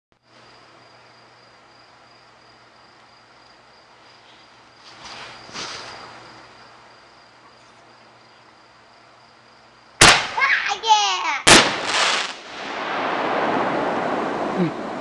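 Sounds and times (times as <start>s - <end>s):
crickets trilling: 0.2s - 15.0s.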